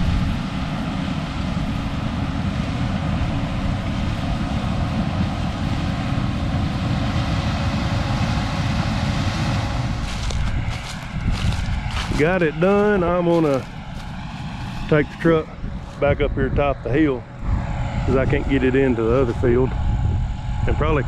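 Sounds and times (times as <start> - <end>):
diesel farm machinery rumbling: 0.0 - 21.0.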